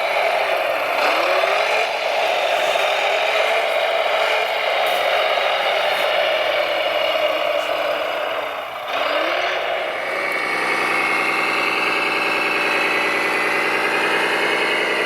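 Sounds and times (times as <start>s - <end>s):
toy vehicle engine idling: 0.0s - 15.0s.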